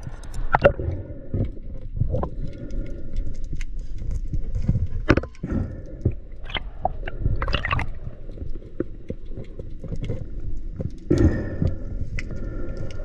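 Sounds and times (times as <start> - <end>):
muffled underwater rumble: 0.0 - 13.0
underwater clicks and knocks: 0.0 - 13.0.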